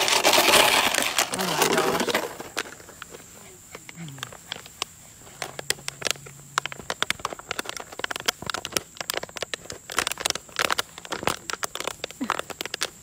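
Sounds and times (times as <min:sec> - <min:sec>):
plastic bottle crackling: 0:00.0 - 0:13.0.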